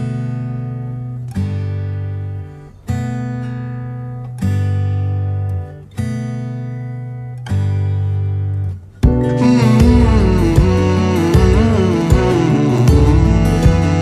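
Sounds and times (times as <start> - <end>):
acoustic guitar chords strummed: 0.0 - 14.0.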